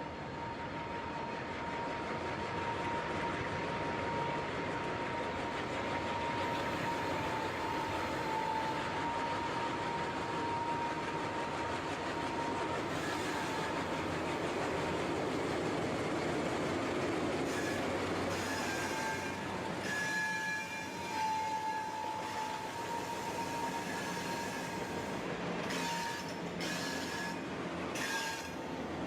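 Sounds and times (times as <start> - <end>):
continuous whine: 0.0 - 29.0
train wheels rumbling on rail: 0.0 - 29.0.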